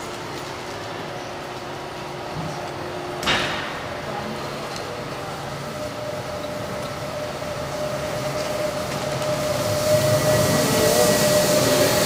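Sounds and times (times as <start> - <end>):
tram running on track: 0.0 - 12.0
steady whine: 0.1 - 12.0.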